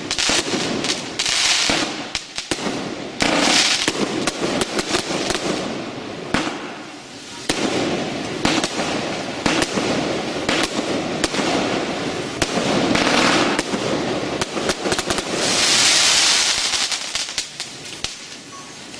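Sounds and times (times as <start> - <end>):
fireworks crackling and popping: 0.0 - 18.9
fireworks hiss: 0.0 - 18.9.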